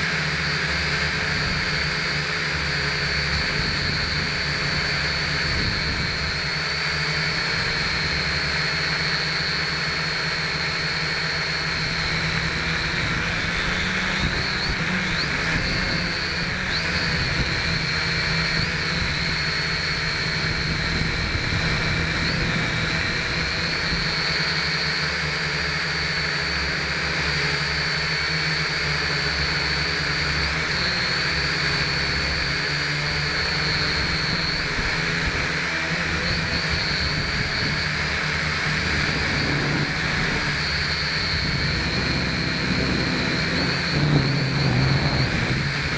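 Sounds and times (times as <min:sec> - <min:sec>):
quadcopter motors whining: 0:00.0 - 0:45.9.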